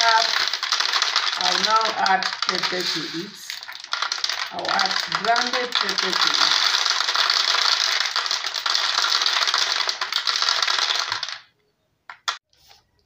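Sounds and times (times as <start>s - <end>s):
beans rattling into plastic bottle: 0.0s - 11.5s.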